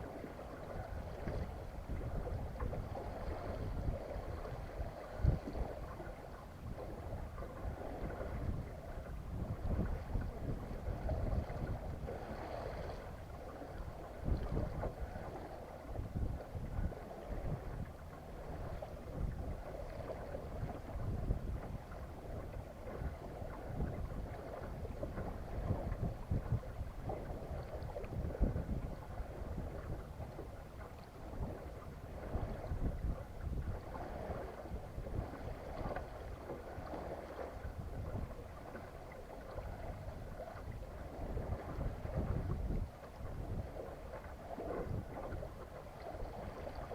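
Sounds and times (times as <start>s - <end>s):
water washing along hull: 0.0s - 46.9s
wind buffeting microphone: 0.0s - 46.9s.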